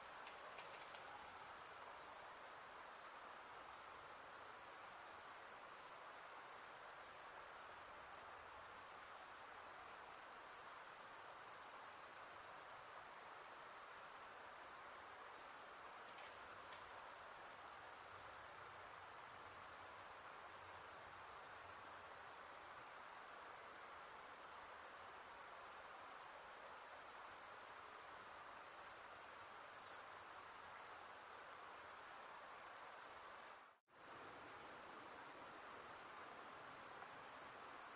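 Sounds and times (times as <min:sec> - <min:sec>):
insects chirping chorus: 0:00.0 - 0:37.9.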